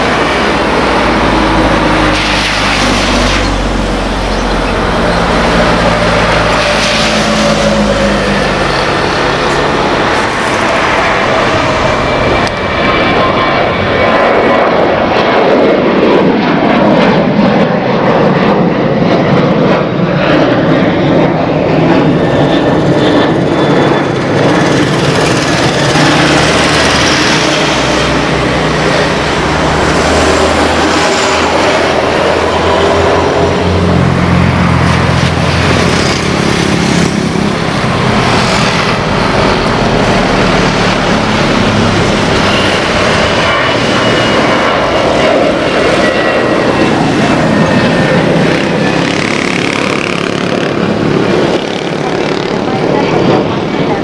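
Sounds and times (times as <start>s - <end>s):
jet engines at takeoff: 0.0s - 54.0s
jet plane lifting off: 0.0s - 54.0s.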